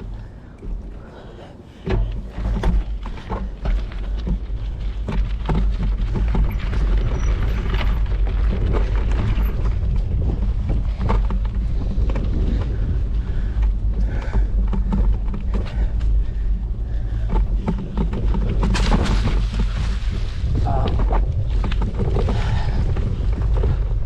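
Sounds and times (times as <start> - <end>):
bike rattling over rough ground: 0.0 - 24.0
wind buffeting microphone: 0.0 - 24.0.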